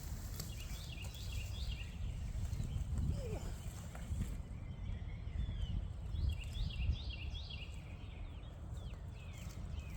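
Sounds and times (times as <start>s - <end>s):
bird chirping: 0.3s - 9.9s.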